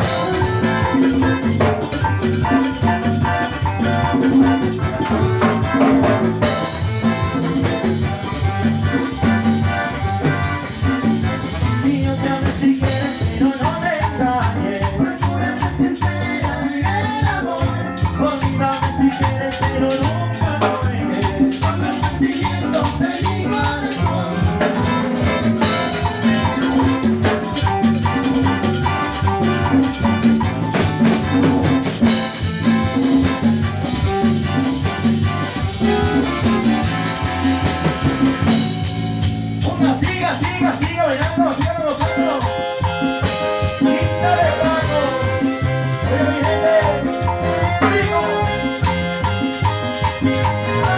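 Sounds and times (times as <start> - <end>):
latin dance band playing: 0.0 - 50.9.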